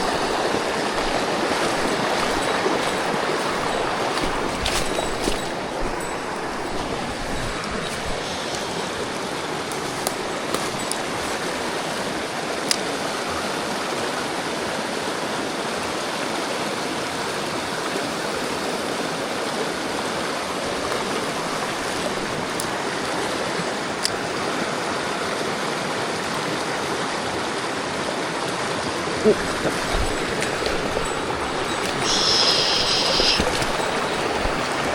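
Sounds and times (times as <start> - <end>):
stream water rushing and splashing: 0.0 - 34.9.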